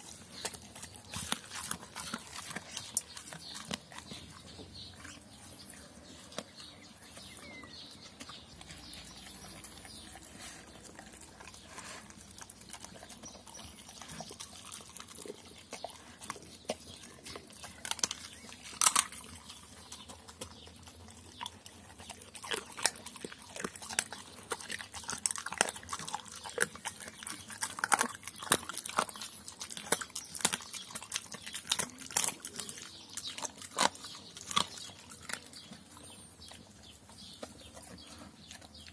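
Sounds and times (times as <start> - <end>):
dog chewing food: 0.0 - 38.9.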